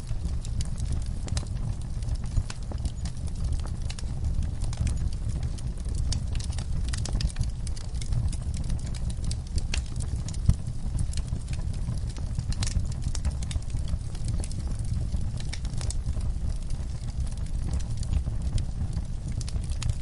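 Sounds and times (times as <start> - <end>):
flames rumbling: 0.0 - 20.0
logs crackling and popping: 0.0 - 20.0.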